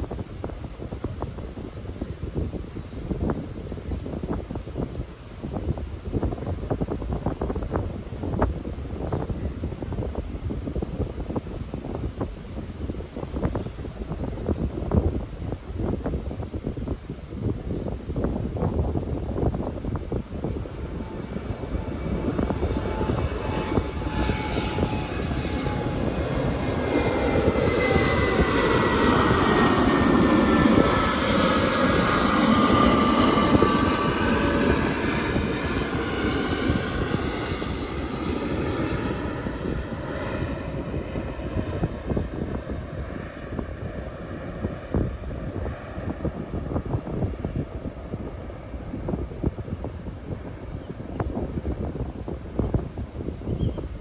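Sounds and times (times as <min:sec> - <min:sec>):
airliner flying overhead: 0:00.0 - 0:54.0
wind buffeting microphone: 0:00.0 - 0:54.0.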